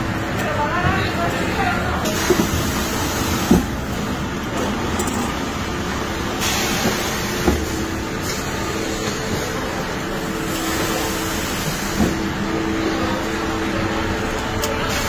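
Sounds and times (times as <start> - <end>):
machine whir and hum: 0.0 - 15.0.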